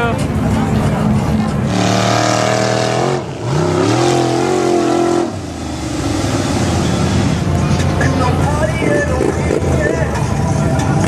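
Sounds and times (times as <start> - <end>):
truck engine revving: 0.2 - 11.0.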